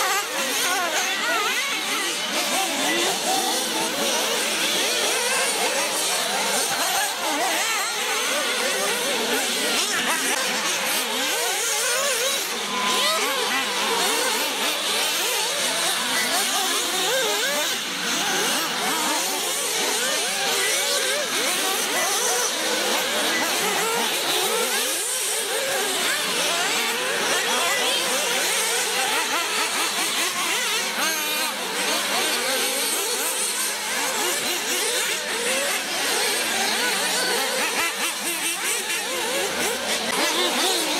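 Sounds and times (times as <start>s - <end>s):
rc buggy engines whining: 0.0s - 40.9s.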